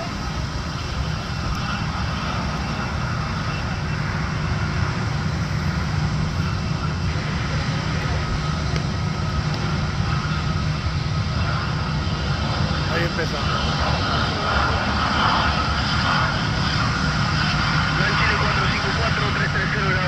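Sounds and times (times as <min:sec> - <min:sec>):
faint high whine: 0:00.0 - 0:20.0
jet engines running: 0:00.0 - 0:20.0.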